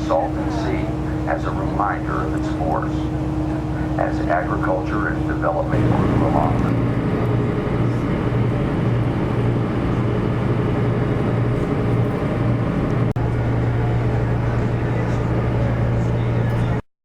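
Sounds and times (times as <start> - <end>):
aircraft engine drone in cabin: 0.0 - 16.9.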